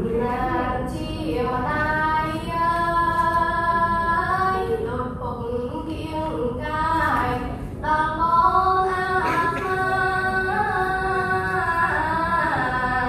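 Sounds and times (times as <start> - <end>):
girl chanting melodically: 0.0 - 13.0.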